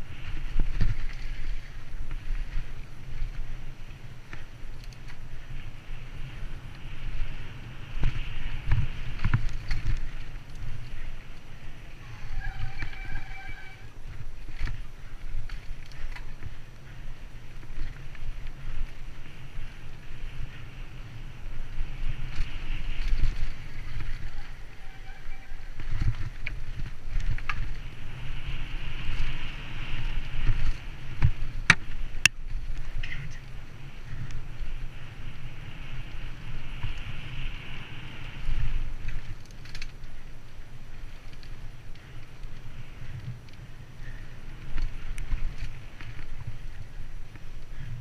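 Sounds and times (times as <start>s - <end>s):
bike clicks and rattles: 0.0s - 48.0s
wind buffeting microphone: 0.0s - 48.0s.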